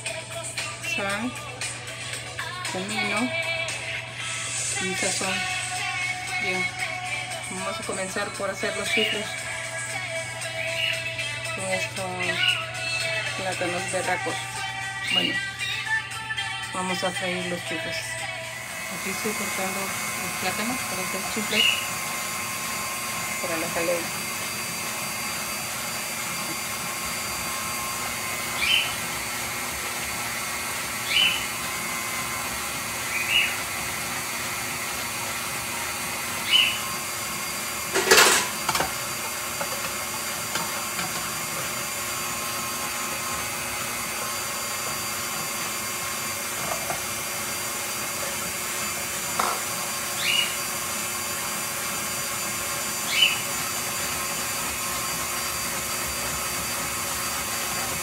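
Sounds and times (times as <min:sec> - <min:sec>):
stand mixer running: 0:00.0 - 0:58.0.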